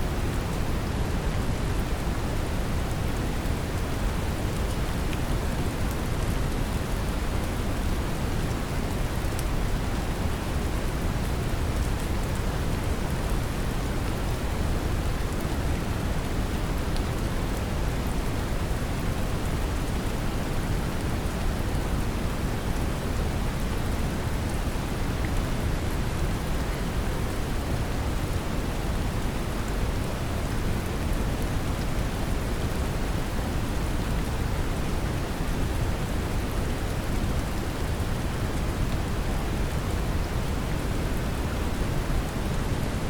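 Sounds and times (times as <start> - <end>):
brown noise hiss: 0.0 - 43.0
steady rain: 0.0 - 43.0.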